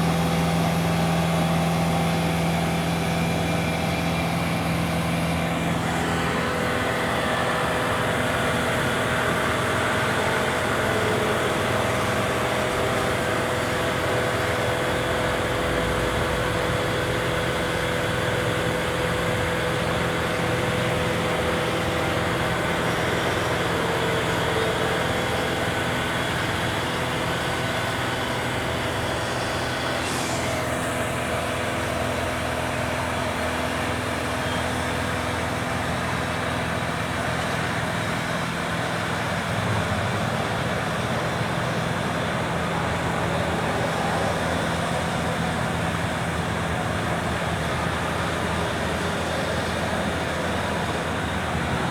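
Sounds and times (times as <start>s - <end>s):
lift engine humming: 0.0s - 51.9s.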